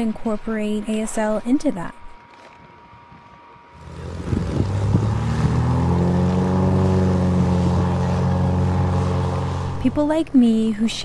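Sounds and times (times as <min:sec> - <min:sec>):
propeller plane engine drone: 0:00.0 - 0:11.0.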